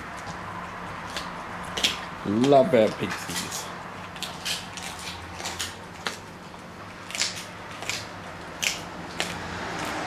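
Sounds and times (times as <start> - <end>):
dog chewing with crunches: 0.0 - 10.0.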